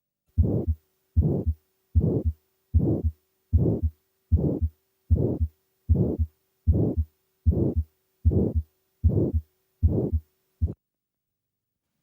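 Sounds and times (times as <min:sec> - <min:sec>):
faint steady hum: 0:00.2 - 0:12.0
heart murmur: 0:00.4 - 0:10.8
heartbeat: 0:00.4 - 0:10.8.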